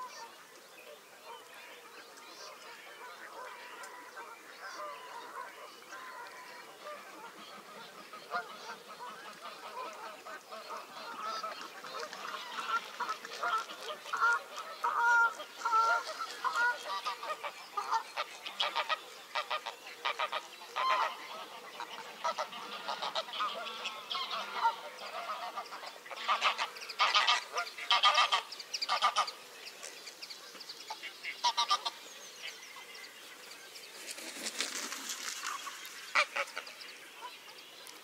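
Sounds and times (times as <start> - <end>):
geese honking: 2.3 - 29.4, 31.0 - 32.7, 35.3 - 37.4.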